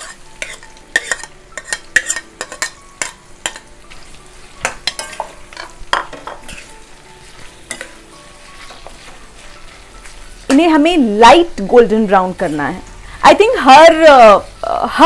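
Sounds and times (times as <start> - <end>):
spatula scraping and clinking wok: 0.0 - 13.2
onions sizzling in oil: 0.0 - 15.0.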